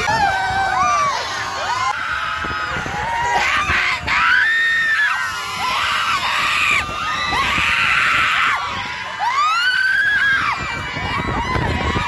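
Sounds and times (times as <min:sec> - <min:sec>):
riders screaming: 0:00.0 - 0:12.0.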